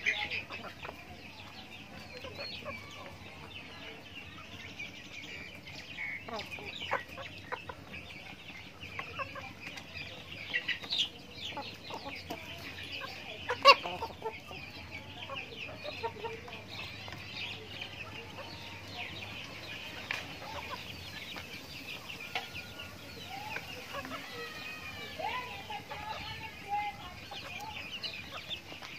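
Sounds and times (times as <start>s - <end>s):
young chickens clucking and peeping: 0.0s - 28.9s.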